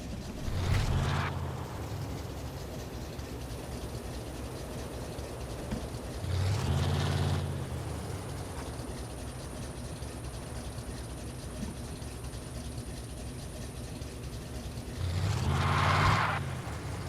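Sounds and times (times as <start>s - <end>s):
pickup truck engine revving: 0.0s - 17.0s.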